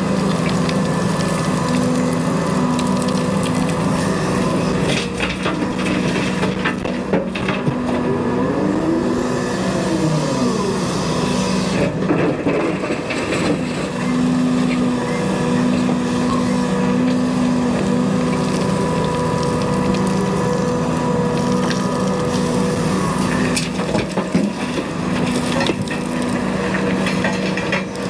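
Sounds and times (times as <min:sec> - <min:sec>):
diesel engine running: 0:00.0 - 0:28.0
hydraulic whine: 0:00.0 - 0:28.0.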